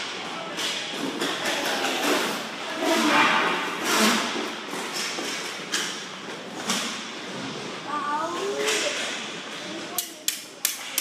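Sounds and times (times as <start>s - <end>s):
hockey sticks and puck clacking: 0.0s - 7.0s, 8.3s - 11.0s
skate wheels rolling on rink: 0.0s - 10.0s.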